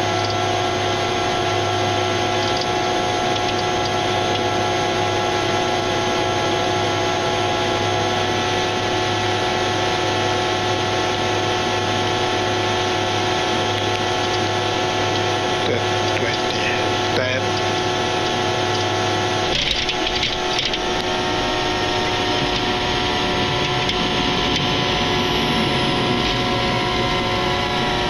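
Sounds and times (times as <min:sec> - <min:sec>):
airliner engines droning: 0:00.0 - 0:28.0.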